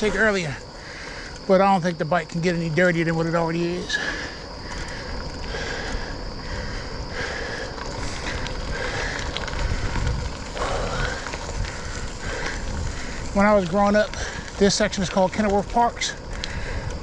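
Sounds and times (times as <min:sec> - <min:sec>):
bicycle tyre and wind rumble: 0:00.0 - 0:17.0.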